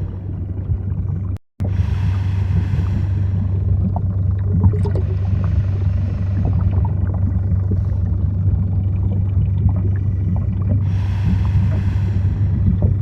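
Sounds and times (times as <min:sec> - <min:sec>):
deep underwater hum: 0:00.0 - 0:13.0.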